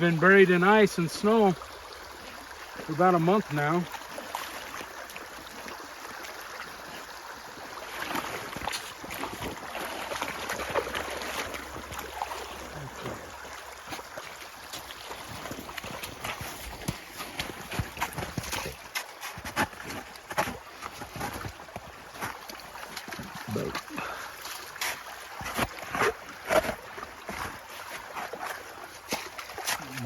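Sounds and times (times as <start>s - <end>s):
meltwater rushing: 0.0s - 30.0s
water splashes and knocks: 0.0s - 30.0s.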